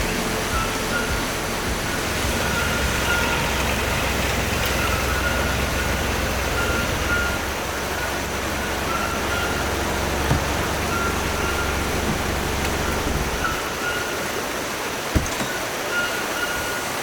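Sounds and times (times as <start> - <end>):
motor vehicle engine rumble: 0.0 - 16.4.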